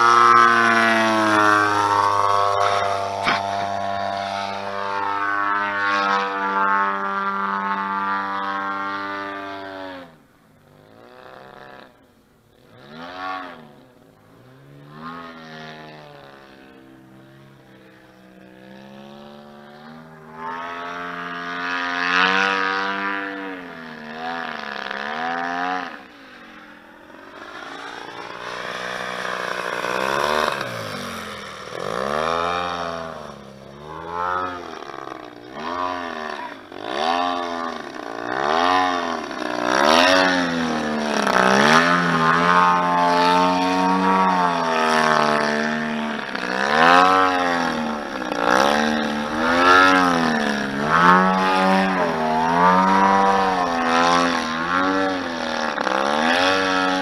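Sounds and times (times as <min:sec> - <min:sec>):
model plane gas engine: 0:00.0 - 0:57.0.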